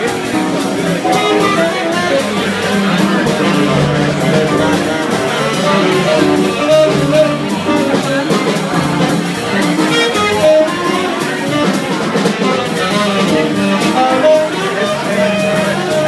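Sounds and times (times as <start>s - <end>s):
jazz combo playing: 0.4s - 16.0s.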